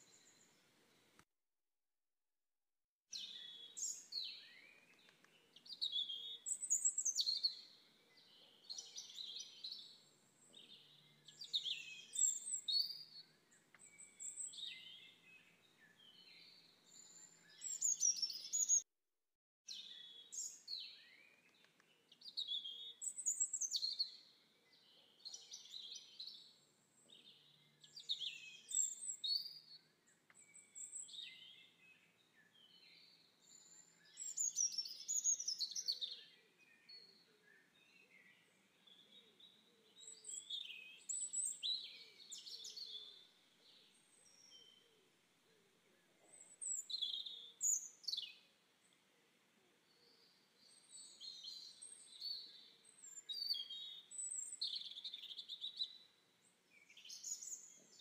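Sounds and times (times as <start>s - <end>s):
birds singing and chirping: 3.1s - 18.8s, 19.7s - 29.8s, 30.4s - 44.9s, 46.2s - 48.5s, 49.8s - 56.1s, 56.7s - 58.0s.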